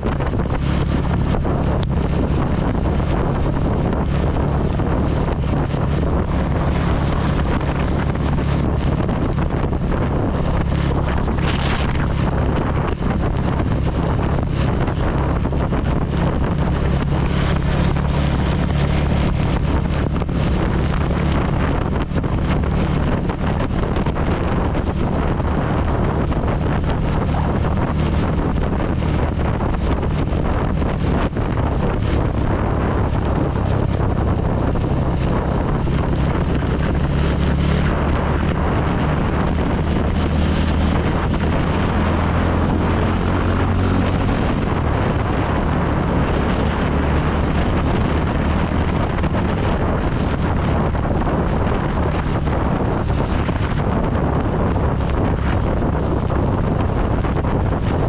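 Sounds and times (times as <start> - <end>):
motorcycle engine running: 0.0 - 58.0
rain pattering on microphone: 0.0 - 58.0
wind buffeting microphone: 0.0 - 58.0.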